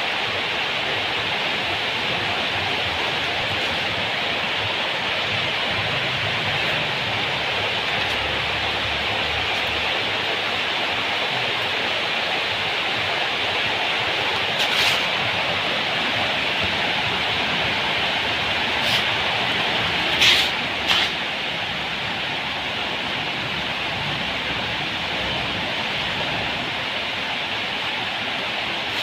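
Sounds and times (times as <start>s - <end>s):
engine running with hissy noise: 0.0s - 29.0s.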